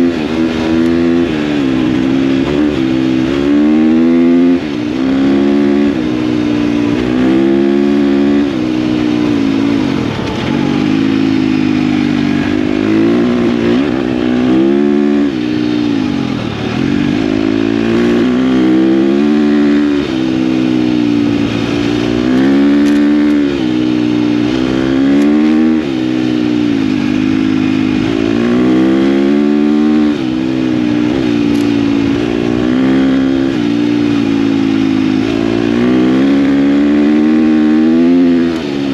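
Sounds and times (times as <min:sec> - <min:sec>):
dirt bike engine revving: 0:00.0 - 0:38.9
wind and road noise: 0:00.0 - 0:38.9.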